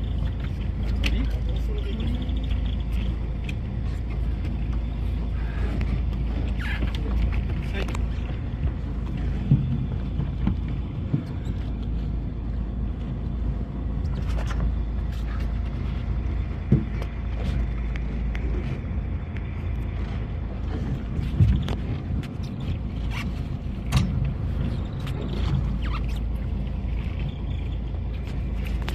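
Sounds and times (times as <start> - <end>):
boat engine running: 0.0 - 28.9
water around hull: 0.0 - 28.9.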